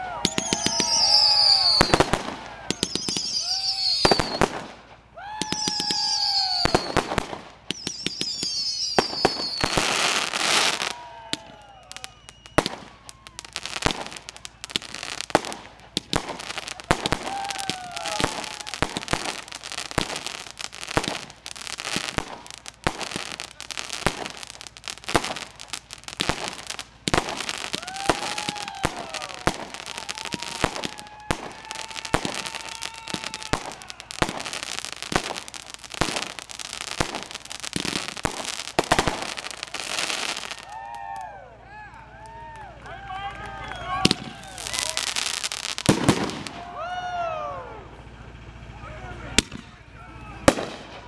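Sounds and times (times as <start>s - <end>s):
firework shells bursting with bangs: 0.0s - 41.2s, 44.0s - 46.7s, 49.3s - 51.0s
fireworks crackling: 0.0s - 51.0s.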